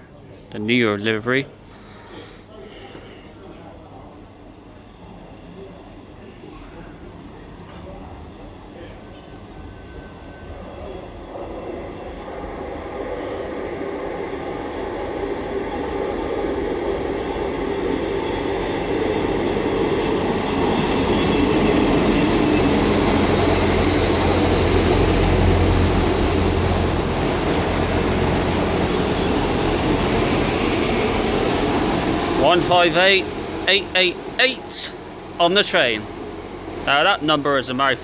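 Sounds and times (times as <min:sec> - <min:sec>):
diesel train engine rumble: 0:04.2 - 0:38.0
steady high whine: 0:07.3 - 0:38.0
train wheel noise: 0:07.5 - 0:38.0.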